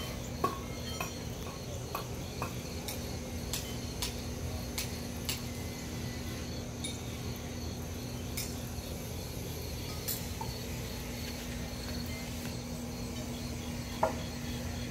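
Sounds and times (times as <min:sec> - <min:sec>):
insects chirring: 0:00.0 - 0:14.9
low steady hum: 0:00.0 - 0:14.9.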